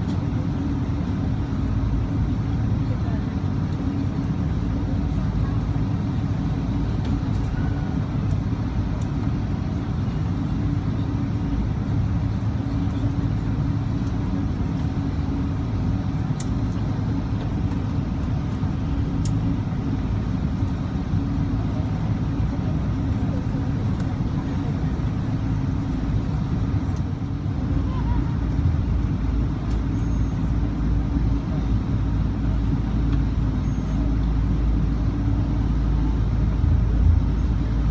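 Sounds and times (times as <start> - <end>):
aircraft cabin rumble: 0.0 - 37.9.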